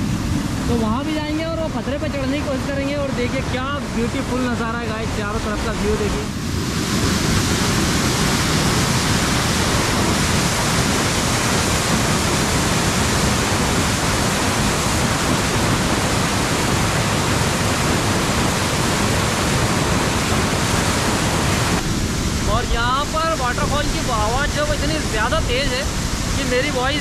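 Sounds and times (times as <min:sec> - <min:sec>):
waterfall rushing onto rock: 0:02.4 - 0:27.0.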